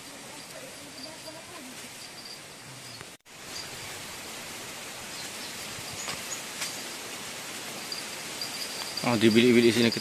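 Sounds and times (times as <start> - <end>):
insects chirping faintly: 0.0 - 10.0
outdoor background hiss: 0.0 - 10.0.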